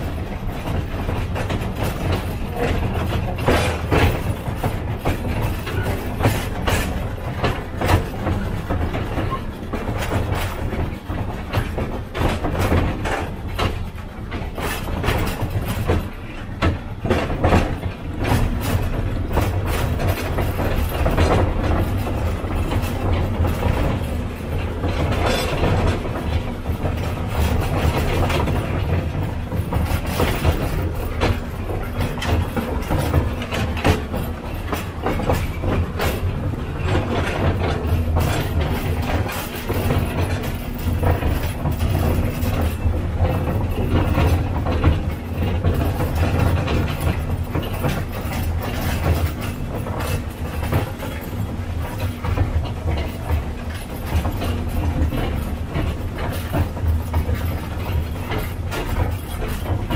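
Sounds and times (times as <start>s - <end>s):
locomotive engine drone: 0.0s - 59.9s
train wheels clattering on rails: 0.0s - 59.9s.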